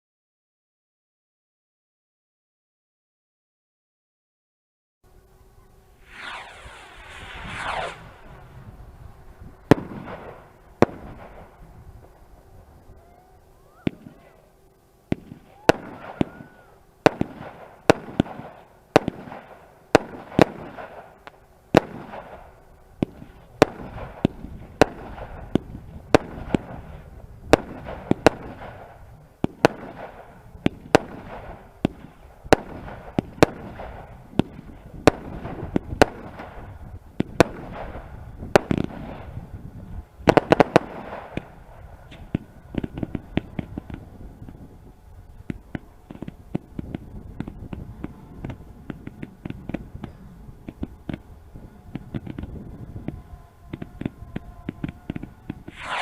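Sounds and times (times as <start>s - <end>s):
fireworks bangs and crackling: 6.0s - 12.2s, 13.8s - 14.4s, 15.1s - 44.8s, 45.4s - 51.2s, 51.9s - 56.0s.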